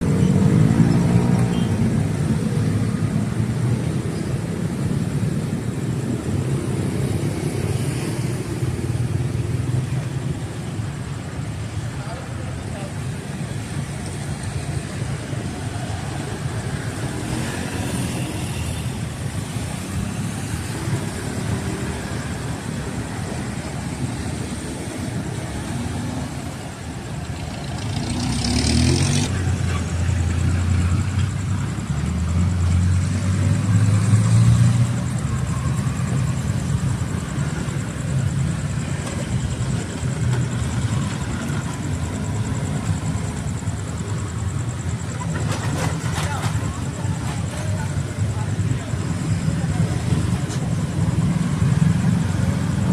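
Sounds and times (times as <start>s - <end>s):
traffic engines idling and passing: 0.0s - 52.9s.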